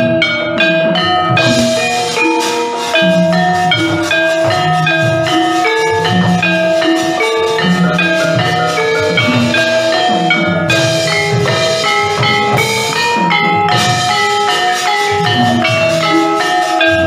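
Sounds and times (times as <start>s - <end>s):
metallophones ringing: 0.0s - 17.0s.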